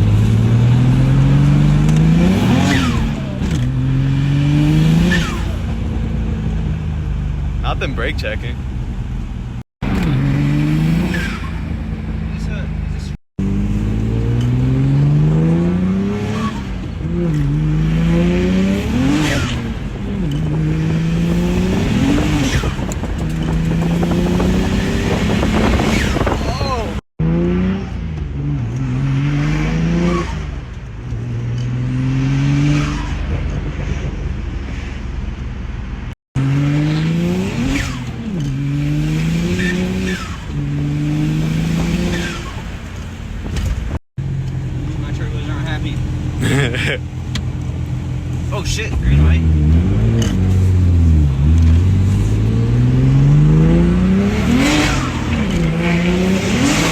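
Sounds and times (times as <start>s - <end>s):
car engine accelerating: 8.6s - 34.8s, 36.4s - 56.9s.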